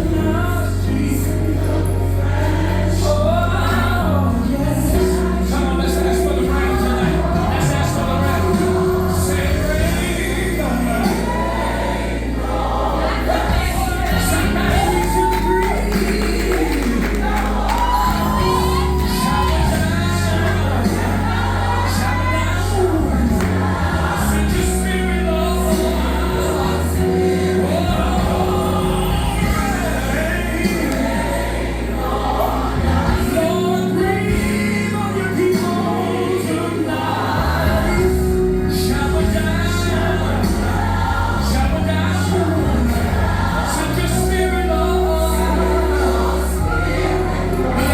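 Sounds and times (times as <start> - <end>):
band with sustained bass: 0.0 - 47.9
choir singing gospel music: 0.0 - 47.9.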